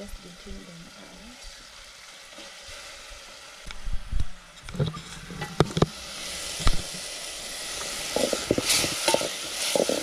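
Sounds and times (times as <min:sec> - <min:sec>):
sauce sizzling in a pot: 0:00.0 - 0:04.0, 0:05.9 - 0:10.0.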